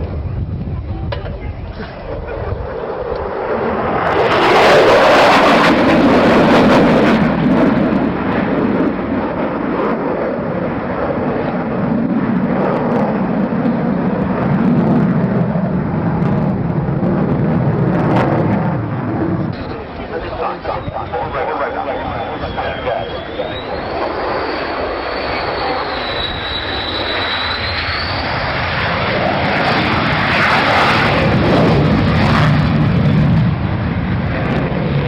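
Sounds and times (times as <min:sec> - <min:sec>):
jet aircraft passing: 0:00.0 - 0:35.0.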